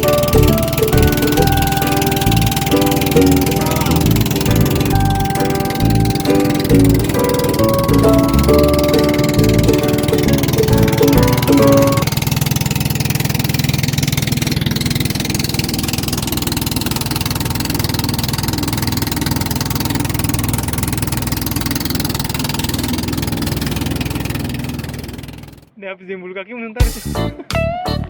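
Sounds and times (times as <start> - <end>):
engine running: 0.0 - 25.7.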